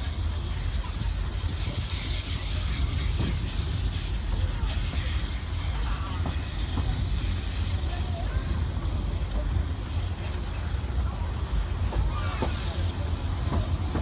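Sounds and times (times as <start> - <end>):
rushing air hiss: 0.0 - 14.0
train wheels rumbling on rails: 0.0 - 14.0.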